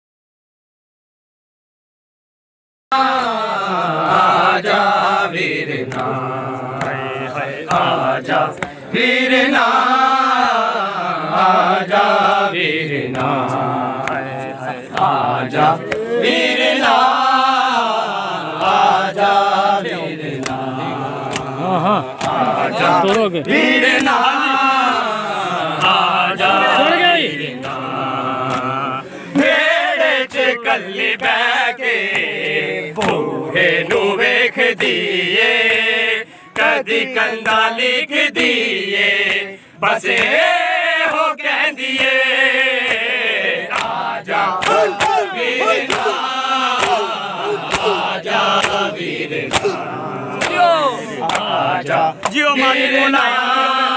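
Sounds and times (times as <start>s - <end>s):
men chanting a lament: 2.9s - 53.9s.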